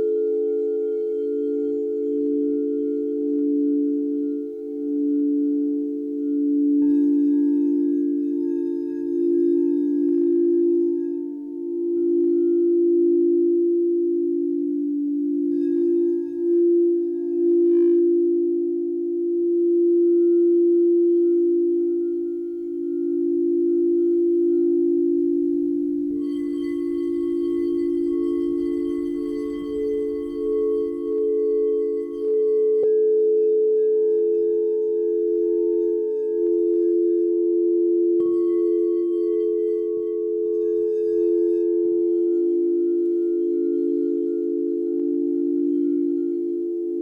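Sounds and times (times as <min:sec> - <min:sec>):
crystal singing bowls ringing: 0:00.0 - 0:47.0.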